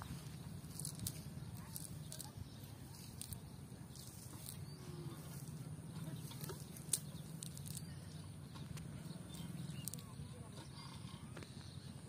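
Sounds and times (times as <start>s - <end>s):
faint bird calls: 0.0s - 12.0s
steady low hum: 0.0s - 12.0s.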